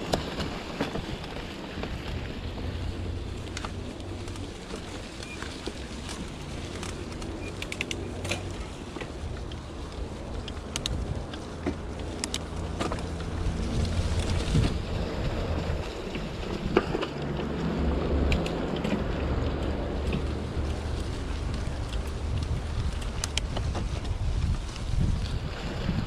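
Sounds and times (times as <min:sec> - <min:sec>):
twigs and leaves crackling: 0:00.0 - 0:25.6
bike clicks and rattles: 0:00.0 - 0:26.0
bike tyres rumbling on dirt: 0:00.0 - 0:26.0
wind on microphone: 0:00.0 - 0:26.0.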